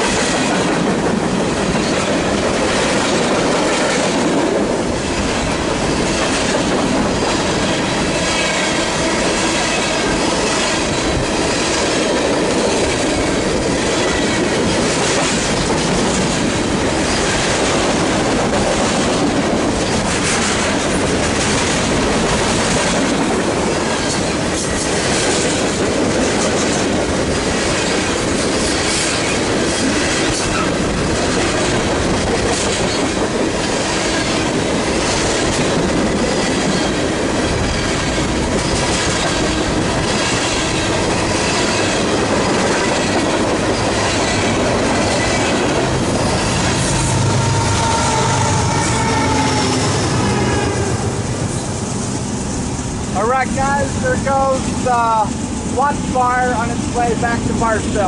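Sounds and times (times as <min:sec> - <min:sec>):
wheels clicking over rail joints: 0:00.0 - 0:47.0.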